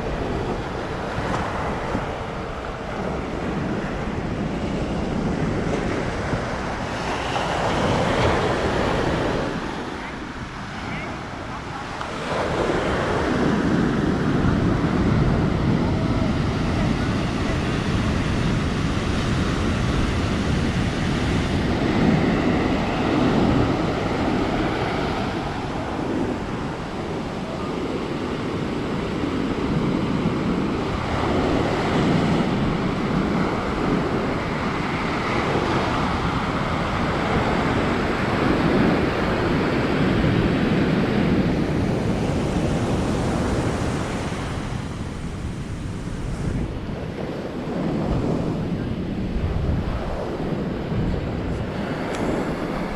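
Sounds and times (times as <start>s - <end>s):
sea waves breaking: 0.0s - 52.9s
wind buffeting the microphone: 0.0s - 52.9s.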